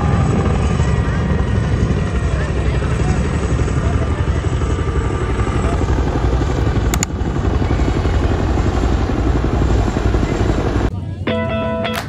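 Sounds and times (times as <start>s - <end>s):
helicopter rotors beating: 0.0s - 12.0s.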